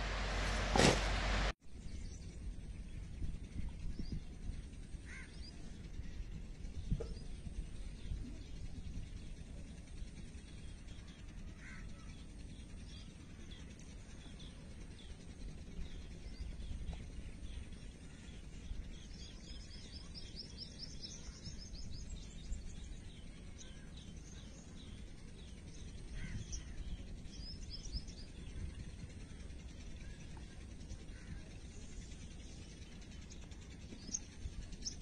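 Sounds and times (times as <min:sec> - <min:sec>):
low background rumble: 0:00.0 - 0:35.0
small birds chirping: 0:03.8 - 0:35.0.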